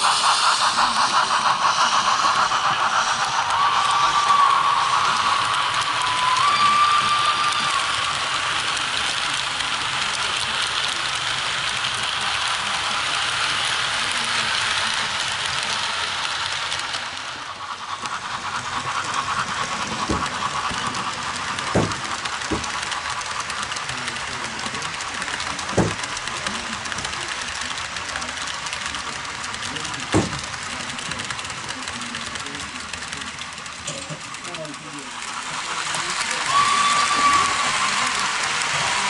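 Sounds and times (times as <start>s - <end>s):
model train wheels rattling: 0.0s - 39.0s.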